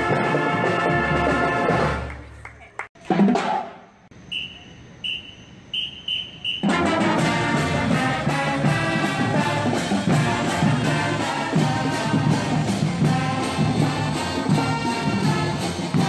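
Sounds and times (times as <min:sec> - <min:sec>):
marching band playing: 0:00.0 - 0:02.2, 0:03.0 - 0:03.8, 0:05.8 - 0:16.0.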